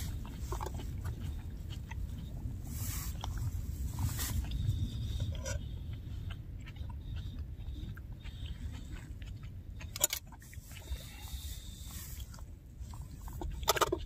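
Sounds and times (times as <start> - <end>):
chewing: 0.0 - 14.0
steady low rumble: 0.0 - 14.0.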